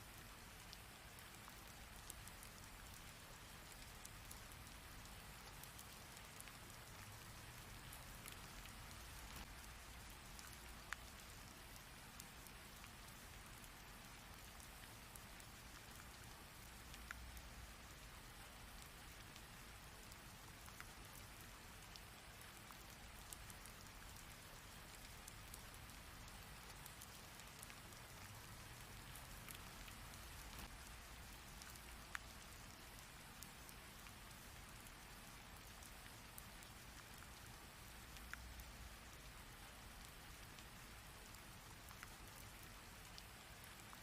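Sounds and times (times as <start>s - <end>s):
rain hiss: 0.0s - 44.0s
raindrops ticking: 0.1s - 44.0s.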